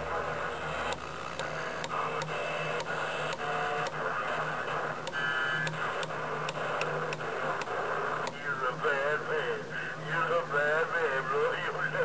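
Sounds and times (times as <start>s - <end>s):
distant radio signals: 0.0s - 12.0s
radio static hiss: 0.0s - 12.0s.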